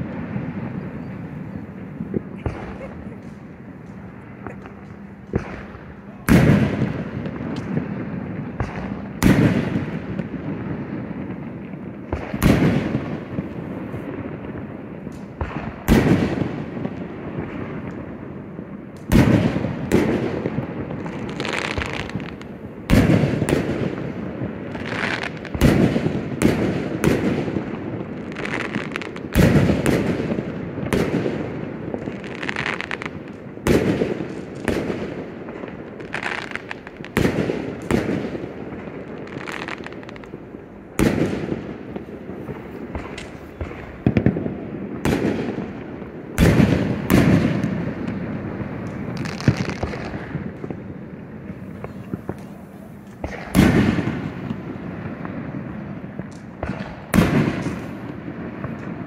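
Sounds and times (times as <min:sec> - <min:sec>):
fireworks booming: 0:00.0 - 0:59.0.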